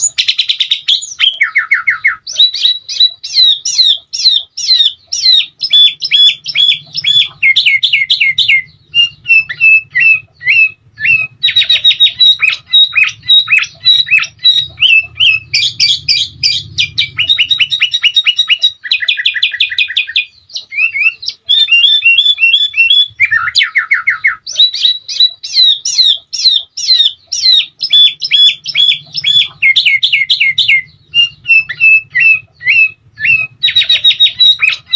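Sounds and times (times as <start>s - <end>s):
bulbul singing trills and whistles: 0.0s - 34.9s.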